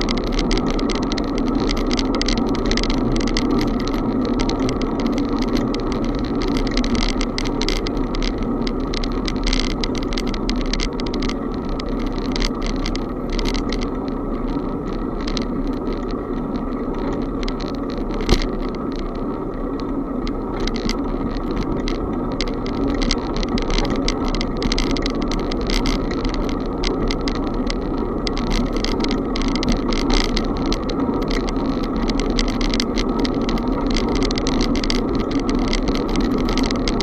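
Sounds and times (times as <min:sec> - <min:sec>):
bicycle riding noise: 0:00.0 - 0:37.0.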